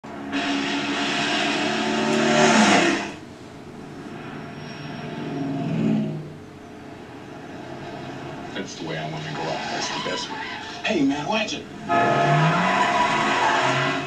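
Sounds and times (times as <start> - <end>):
car engine passing at speed: 0.0 - 10.0, 11.7 - 14.0.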